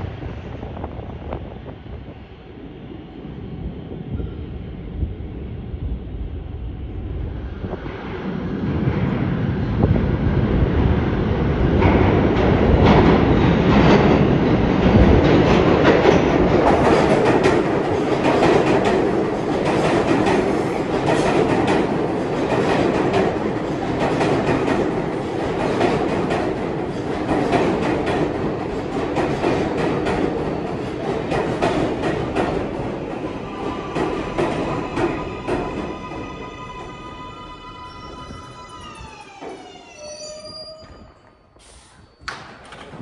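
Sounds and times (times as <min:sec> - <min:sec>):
subway train rumbling past: 0:00.0 - 0:43.0.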